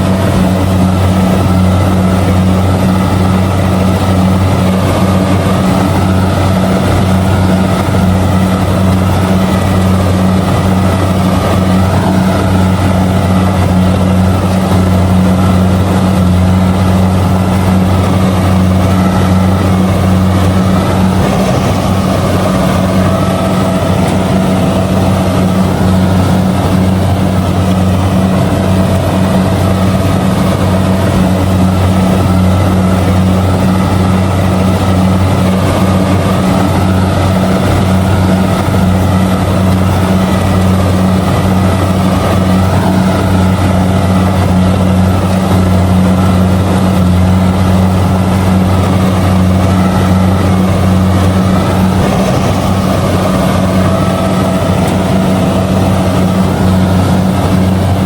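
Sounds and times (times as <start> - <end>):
combine harvester engine hum: 0.0 - 58.0.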